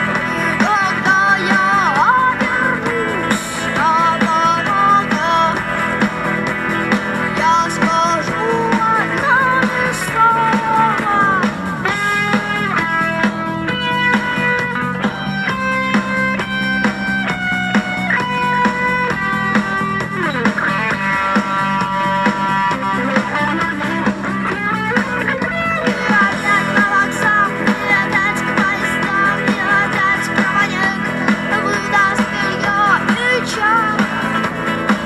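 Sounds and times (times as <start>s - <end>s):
lead electric guitar melody: 0.0s - 35.0s
rock backing band: 0.0s - 35.0s.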